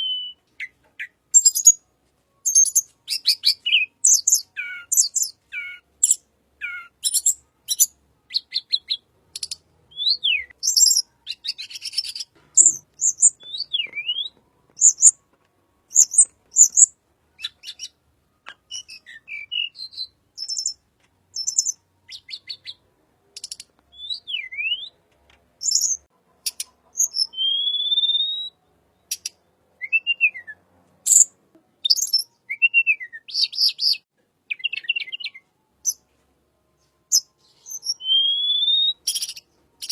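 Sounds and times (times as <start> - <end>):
songbird singing: 0.0 - 36.0, 36.7 - 39.9.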